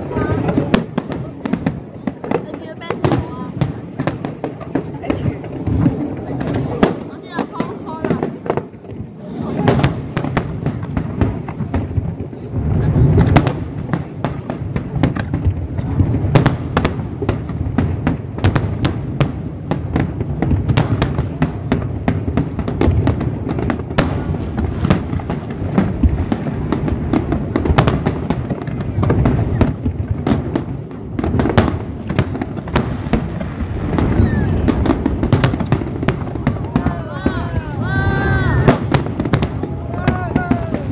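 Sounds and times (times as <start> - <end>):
fireworks booming: 0.0 - 40.9
fireworks cracks and pops: 0.0 - 40.9.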